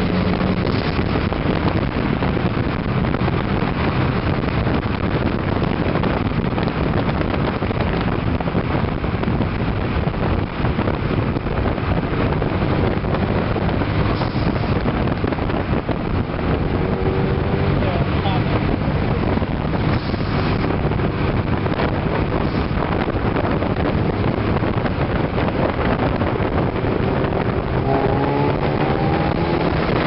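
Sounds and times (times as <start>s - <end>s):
tyre and road noise: 0.0s - 30.0s
wind rushing over microphone: 0.0s - 30.0s.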